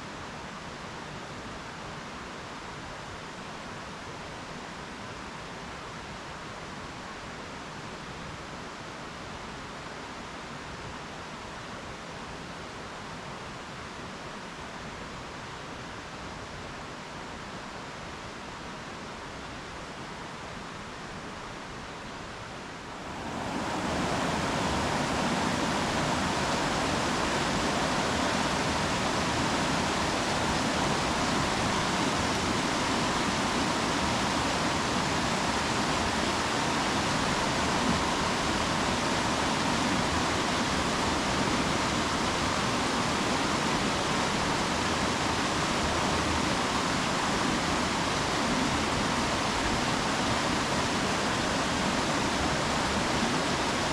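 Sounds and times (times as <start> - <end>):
stream rushing over rocks: 0.1 - 53.9.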